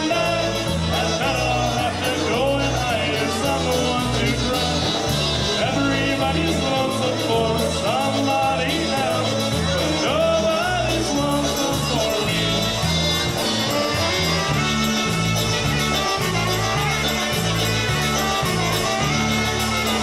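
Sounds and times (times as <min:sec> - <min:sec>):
bass line: 0:00.0 - 0:20.0
polka band playing: 0:00.0 - 0:20.0.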